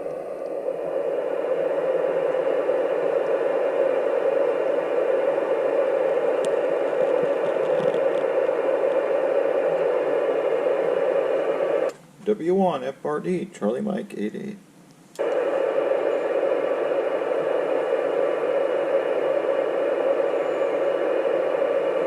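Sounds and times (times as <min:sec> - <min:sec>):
radio static hiss: 0:00.0 - 0:14.6, 0:15.2 - 0:22.0.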